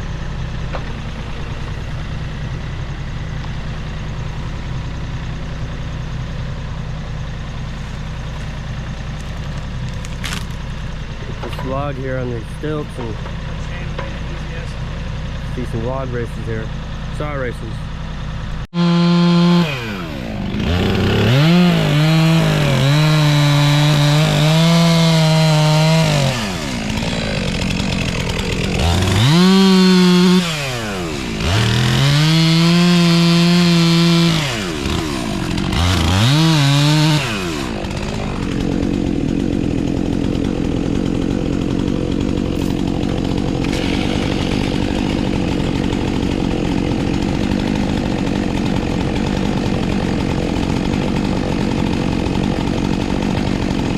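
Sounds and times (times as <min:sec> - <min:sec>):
chainsaw cutting log: 0:07.1 - 0:53.9.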